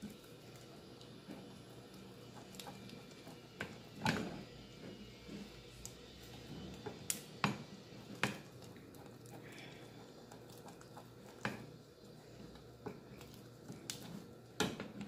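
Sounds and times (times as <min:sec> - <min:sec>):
wooden spoon stirring thick dough: 0:00.0 - 0:15.0.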